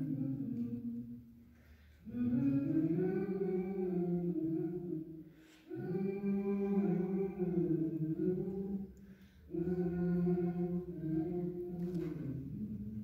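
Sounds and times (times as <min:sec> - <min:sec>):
group singing a cappella: 0:00.0 - 0:01.3, 0:02.0 - 0:13.0.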